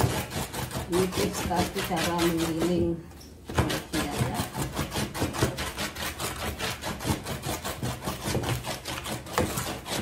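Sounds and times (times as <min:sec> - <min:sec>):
rocking knife chopping on metal tray: 0:00.0 - 0:10.0.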